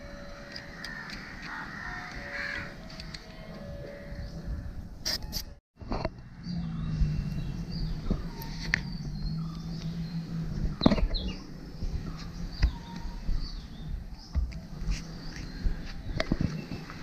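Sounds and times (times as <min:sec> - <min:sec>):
birds chirping: 0:00.0 - 0:04.8, 0:06.1 - 0:17.0.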